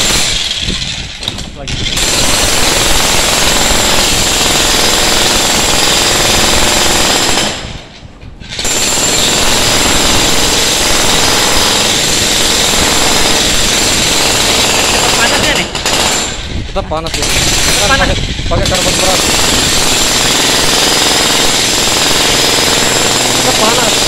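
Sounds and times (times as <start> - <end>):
demolition hammer chiselling concrete: 0.0 - 24.0.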